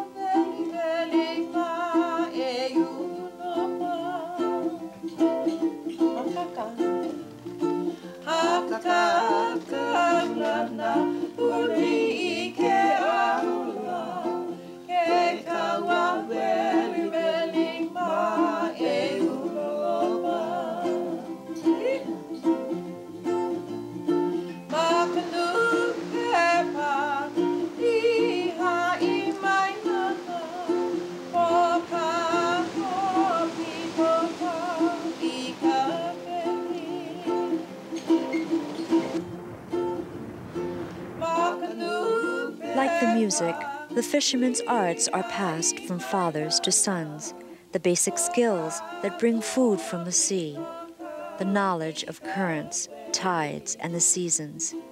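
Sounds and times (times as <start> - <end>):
woman singing: 0.0 - 5.0, 6.0 - 7.2, 7.8 - 22.3, 24.5 - 37.7, 41.2 - 54.9
strummed ukulele: 0.0 - 54.9.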